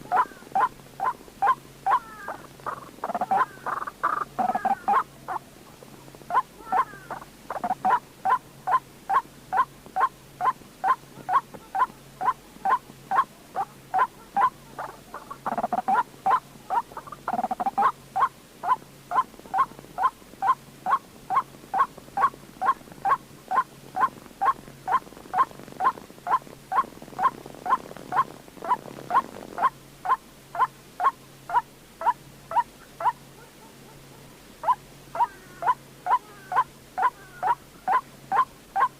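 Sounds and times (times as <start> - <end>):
harsher overlapping bird calls: 0.0 - 5.5, 6.3 - 33.2, 34.6 - 38.9
waterhen calling clipped notes: 0.0 - 5.5, 6.3 - 34.0, 34.6 - 38.9.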